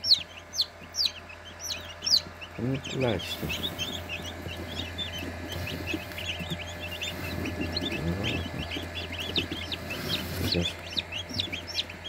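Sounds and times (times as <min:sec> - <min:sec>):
chicks peeping: 0:00.0 - 0:12.0
steady low hum: 0:00.0 - 0:12.0.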